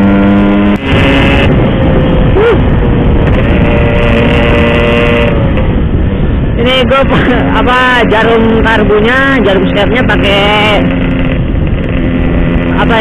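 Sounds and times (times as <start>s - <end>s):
two-stroke motorcycle engine riding: 0.0s - 13.0s.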